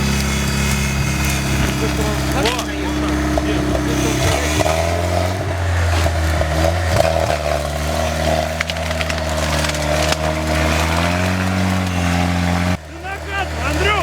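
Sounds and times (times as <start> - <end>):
engine running under load: 0.0 - 14.0
ground crunching under wheels: 0.0 - 14.0.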